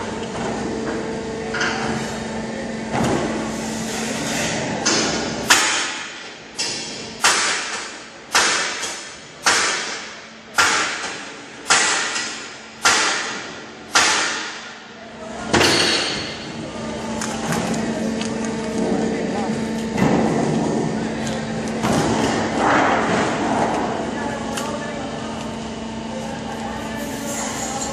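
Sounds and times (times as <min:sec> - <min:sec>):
steady machine hum: 0:00.0 - 0:27.9.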